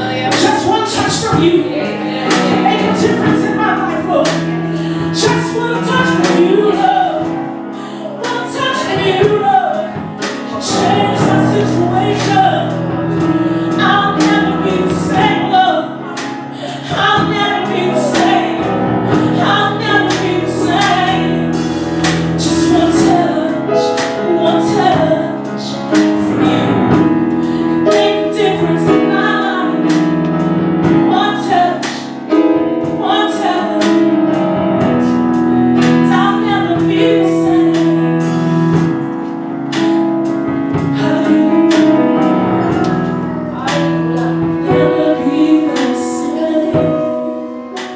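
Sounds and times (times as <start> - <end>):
woman singing: 0.0 - 39.0, 40.7 - 47.9
gospel choir singing: 0.0 - 47.9
instrumental backing with steady beat: 0.0 - 47.9.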